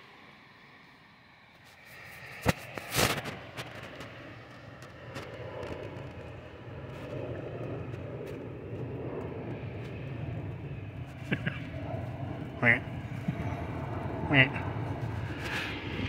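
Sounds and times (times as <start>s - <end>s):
outdoor engine rumble: 0.0s - 16.0s.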